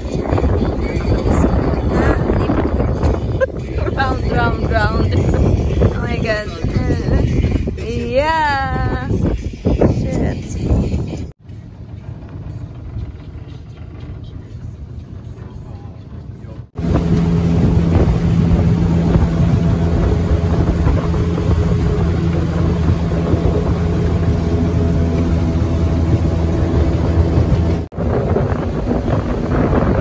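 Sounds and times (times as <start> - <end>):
boat motor running: 0.0 - 8.3, 10.8 - 30.0
water noise: 0.0 - 8.8, 11.5 - 30.0
wind on microphone: 0.0 - 11.3, 15.4 - 30.0.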